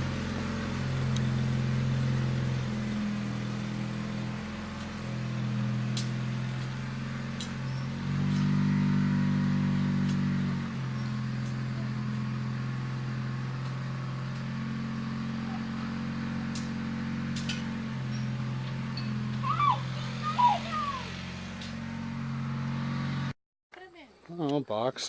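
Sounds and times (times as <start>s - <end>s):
tractor engine running: 0.0s - 23.3s.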